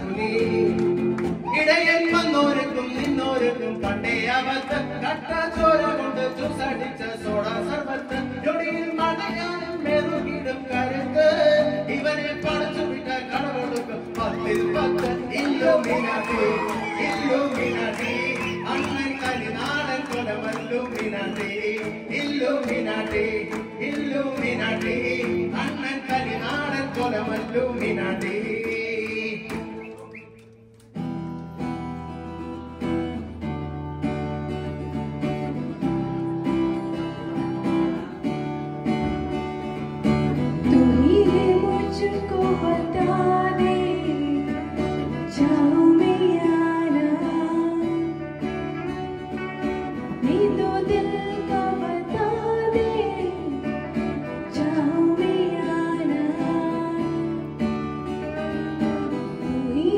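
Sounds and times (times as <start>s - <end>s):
acoustic guitars: 0.0s - 59.9s.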